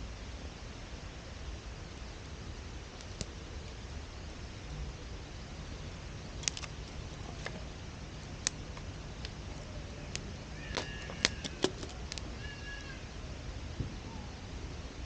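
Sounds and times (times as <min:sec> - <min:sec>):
wood fire crackling: 0:00.9 - 0:13.7.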